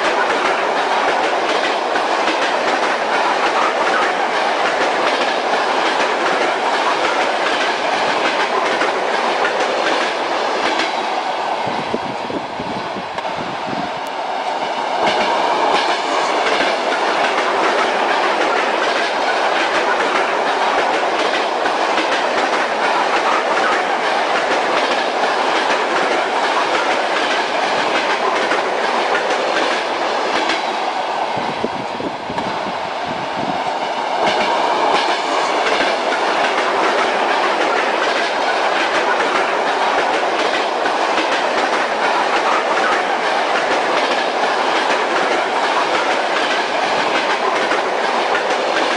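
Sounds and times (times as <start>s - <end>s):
train wheels clattering over joints: 0.0s - 11.0s, 14.9s - 30.7s, 34.1s - 48.9s
train running rumble: 0.0s - 48.9s.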